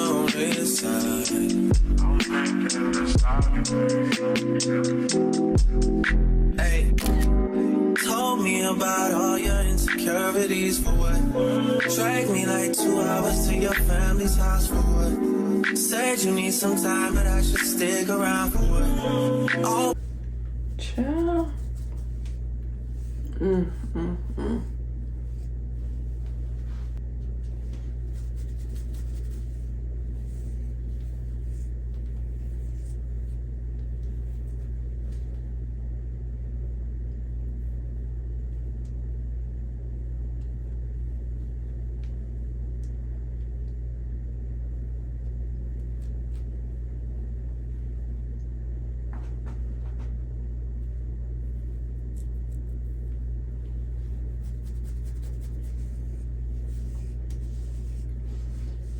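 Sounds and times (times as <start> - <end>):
low rumbling hum: 0.0 - 58.9.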